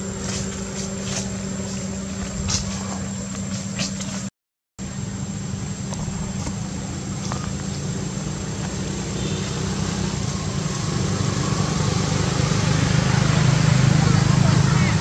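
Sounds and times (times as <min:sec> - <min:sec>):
constant hiss: 0:00.0 - 0:15.0
low mechanical hum: 0:00.0 - 0:15.0.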